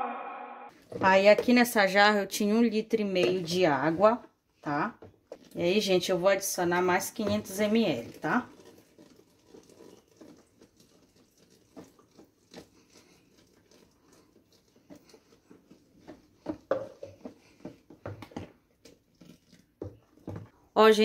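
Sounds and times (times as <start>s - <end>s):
spoon stirring foamy mixture: 0.7s - 20.7s.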